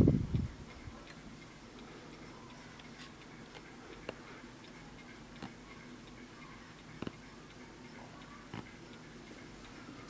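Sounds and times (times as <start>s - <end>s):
clock ticking: 0.3s - 10.0s.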